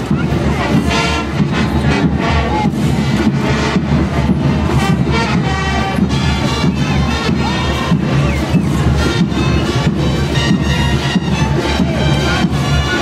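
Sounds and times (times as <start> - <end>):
band melody of held notes: 0.0 - 13.0
drum strokes: 0.0 - 13.0.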